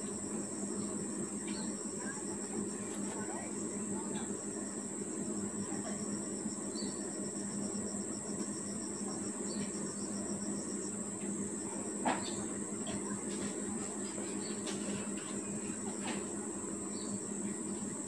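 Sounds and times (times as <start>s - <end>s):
insects trilling: 0.0s - 18.0s
pulsed insect chirp: 0.0s - 18.0s.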